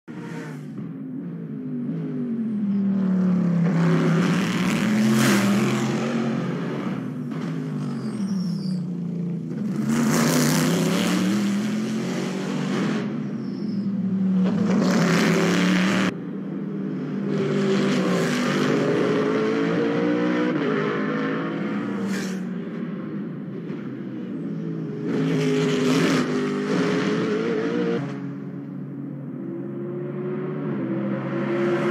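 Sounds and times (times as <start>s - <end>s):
race car accelerating: 0.1s - 31.9s
race car engines passing: 0.1s - 31.9s.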